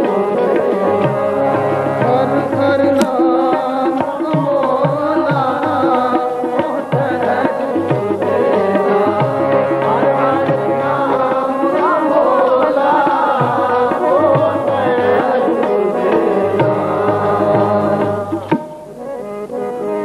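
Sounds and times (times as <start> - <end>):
harmonium chords: 0.0 - 20.0
person singing: 0.0 - 20.0
tabla drum strokes: 0.0 - 20.0.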